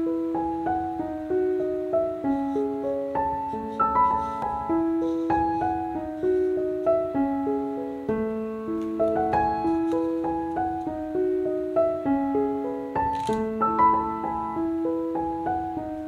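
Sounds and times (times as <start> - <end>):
soft solo piano: 0.0 - 16.0.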